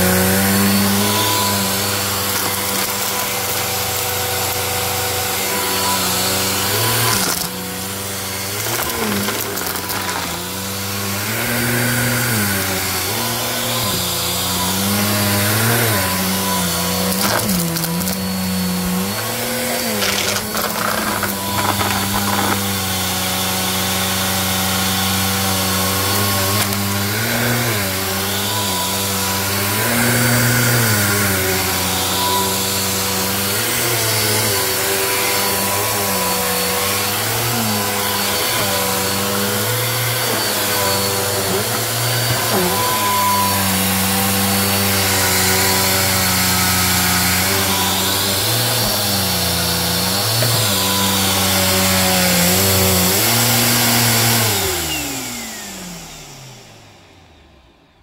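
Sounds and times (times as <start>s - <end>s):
vacuum cleaner running on carpet: 0.0s - 57.9s.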